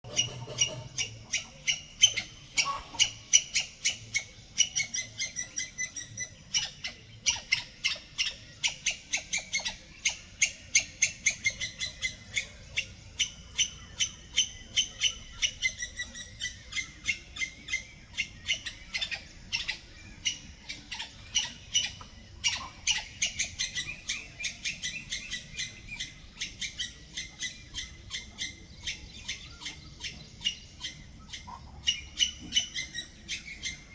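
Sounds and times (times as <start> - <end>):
squirrel calling: 0.0 - 33.9.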